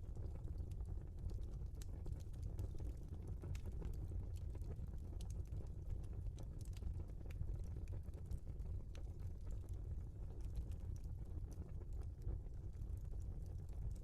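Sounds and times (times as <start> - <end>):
low rumble of flames: 0.0 - 14.0
logs crackling and popping: 0.2 - 14.0.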